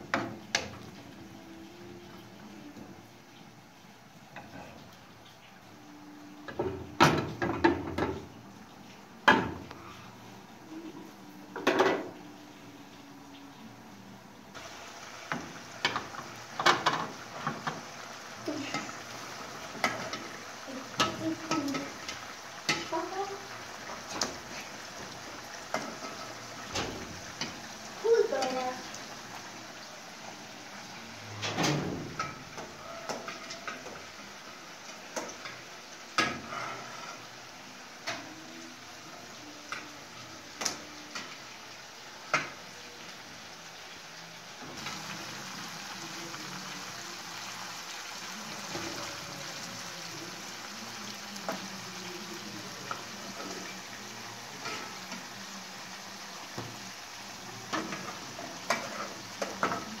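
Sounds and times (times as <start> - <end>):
meat and onions sizzling in pan: 0.0 - 60.0.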